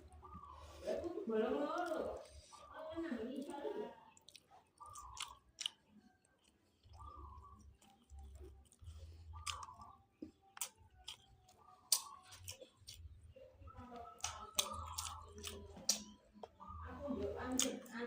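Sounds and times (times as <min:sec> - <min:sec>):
person chewing food: 0:00.0 - 0:01.0, 0:01.6 - 0:02.8, 0:03.4 - 0:18.0.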